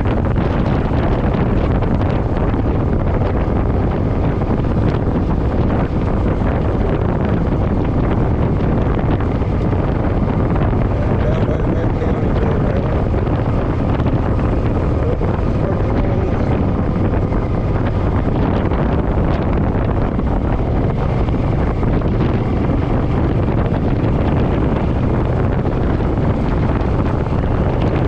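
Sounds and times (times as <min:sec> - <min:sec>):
motorcycle engine cruising: 0:00.0 - 0:28.0
wind buffeting microphone: 0:00.0 - 0:28.0.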